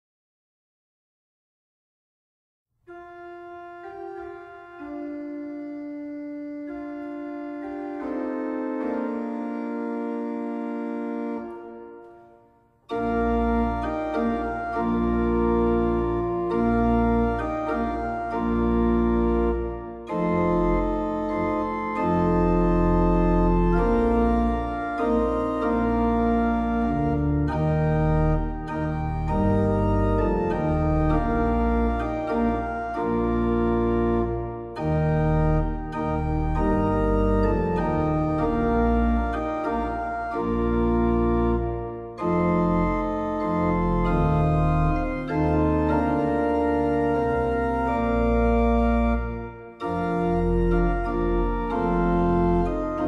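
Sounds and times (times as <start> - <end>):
organ chords: 2.9 - 53.0.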